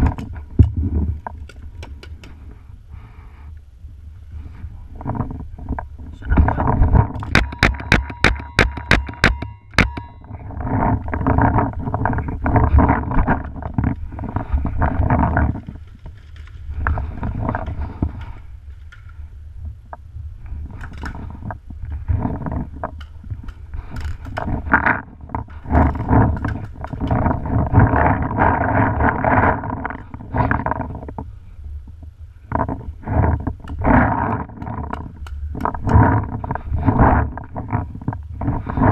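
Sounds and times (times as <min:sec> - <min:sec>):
rustling and knocks from movement: 0:00.0 - 0:02.6, 0:04.4 - 0:31.3, 0:32.5 - 0:38.9
wind buffeting microphone: 0:03.9 - 0:07.8, 0:09.9 - 0:38.9.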